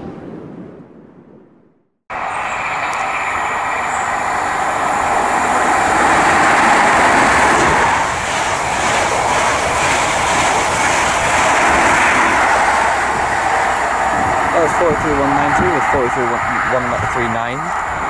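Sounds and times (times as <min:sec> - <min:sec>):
diesel train engine: 0:02.1 - 0:18.0
rush of wheels on rail: 0:02.1 - 0:18.0.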